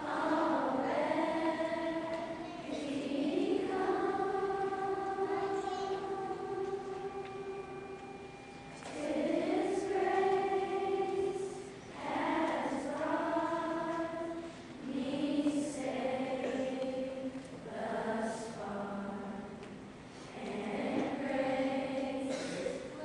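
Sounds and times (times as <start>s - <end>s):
children's chorus singing: 0.0s - 23.0s.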